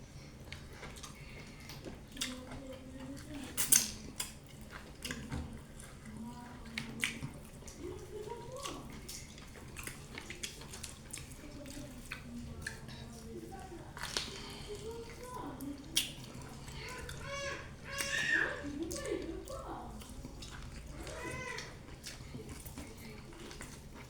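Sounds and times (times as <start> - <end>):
wet mouth eating sounds: 0.1 - 24.0.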